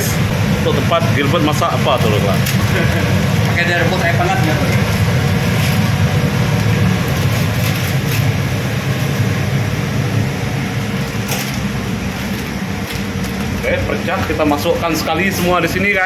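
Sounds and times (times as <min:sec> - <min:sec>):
machinery and ventilation drone: 0:00.0 - 0:16.0.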